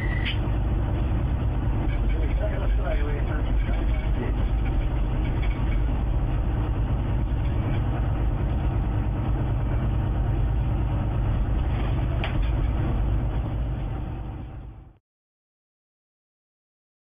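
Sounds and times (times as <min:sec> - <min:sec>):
moving train rumble: 0:00.0 - 0:15.0.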